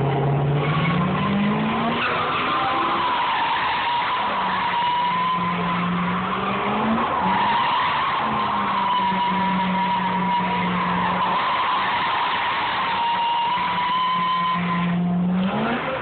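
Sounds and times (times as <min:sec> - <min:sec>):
engine at high revs: 0:00.0 - 0:16.0
tyres squealing: 0:00.5 - 0:16.0.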